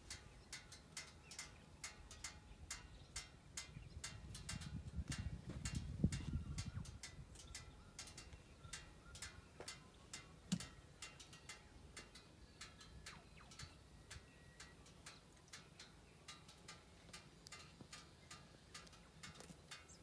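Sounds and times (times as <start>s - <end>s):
faint ticking clicks: 0.0s - 20.0s.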